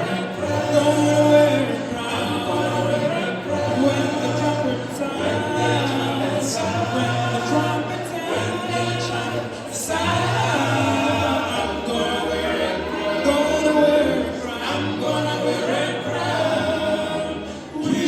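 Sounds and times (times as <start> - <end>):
choir singing gospel song: 0.0 - 18.0.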